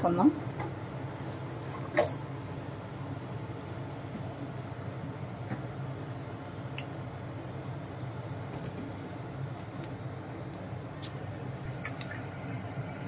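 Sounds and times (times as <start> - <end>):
oil sizzling: 0.7 - 13.0
sharp crackles of frying: 0.7 - 13.0.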